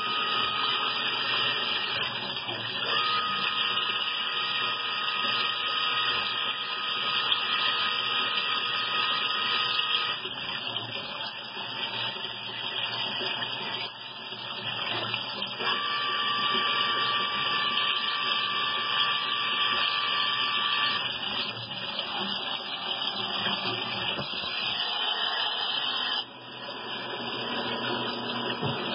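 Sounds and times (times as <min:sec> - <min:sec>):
lathe high whine: 0:00.0 - 0:28.9.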